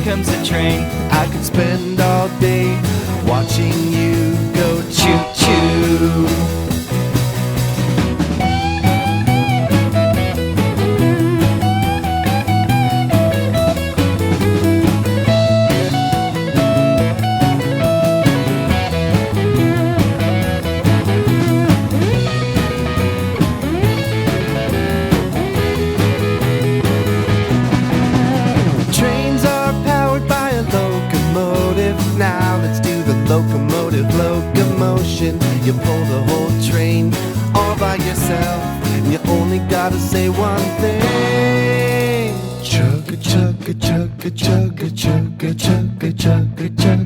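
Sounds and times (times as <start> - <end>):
electric guitar lead melody: 0.0 - 45.4
bass guitar: 0.0 - 47.0
drums: 0.0 - 47.0.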